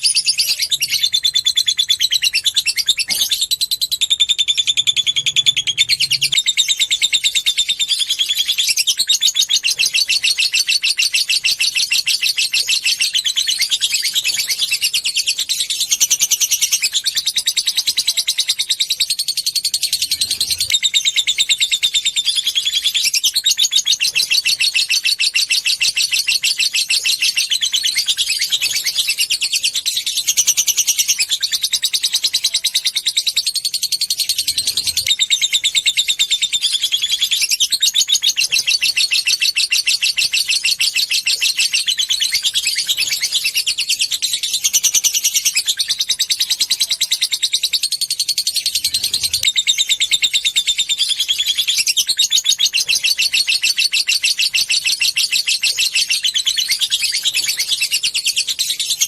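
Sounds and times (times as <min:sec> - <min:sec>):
bird high-pitched trill: 0:00.0 - 0:59.0.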